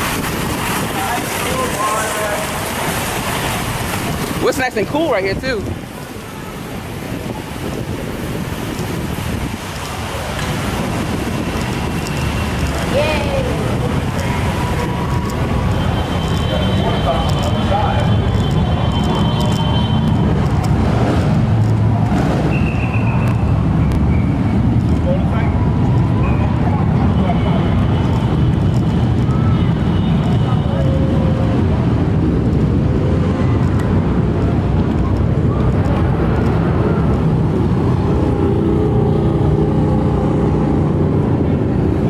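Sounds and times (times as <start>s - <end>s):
heavy traffic rumble: 0.0s - 42.0s.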